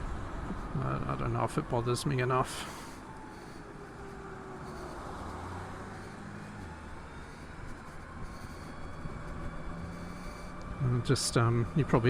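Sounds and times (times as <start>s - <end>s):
motorcycle road noise: 0.0s - 12.0s.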